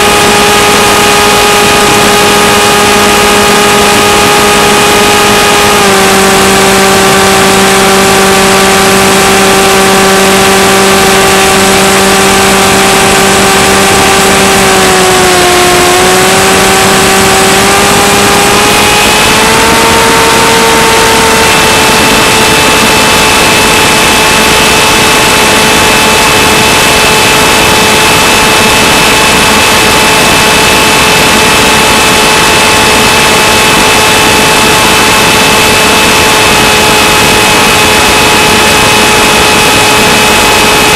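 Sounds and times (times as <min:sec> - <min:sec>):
electric motor and propeller humming: 0:00.0 - 0:40.9
loud steady hiss: 0:00.0 - 0:40.9.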